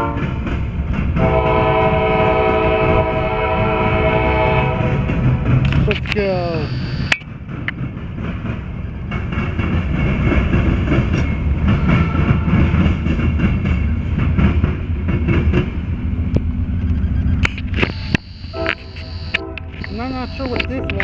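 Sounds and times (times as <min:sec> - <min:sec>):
wheels clacking on rail joints: 0:00.0 - 0:06.6, 0:07.2 - 0:18.0, 0:18.6 - 0:21.0
freight train rumbling: 0:00.0 - 0:21.0.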